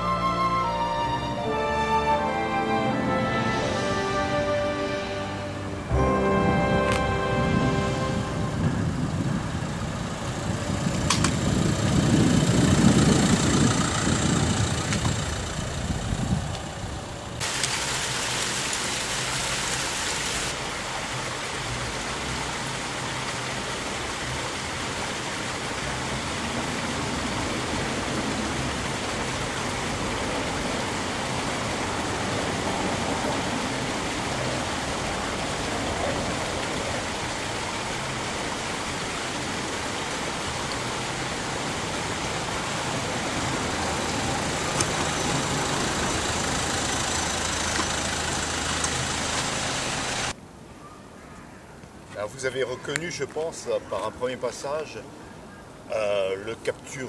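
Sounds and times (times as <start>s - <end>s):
rushing hiss of outdoor noise: 0.0s - 57.0s.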